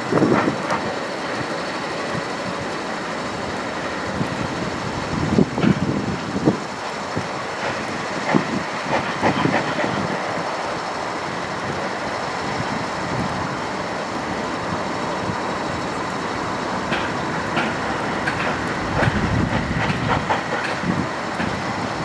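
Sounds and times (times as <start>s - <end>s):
steam hissing: 0.0s - 22.0s
steam locomotive exhaust beats: 0.0s - 22.0s.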